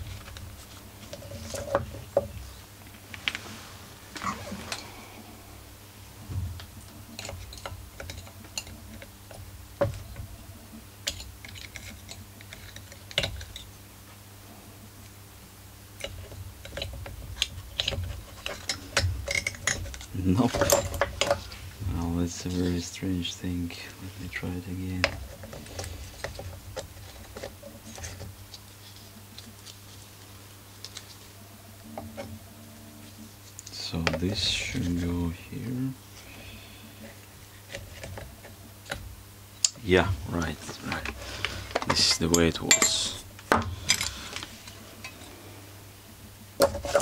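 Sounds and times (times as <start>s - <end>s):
faint low hum: 0.0s - 47.0s.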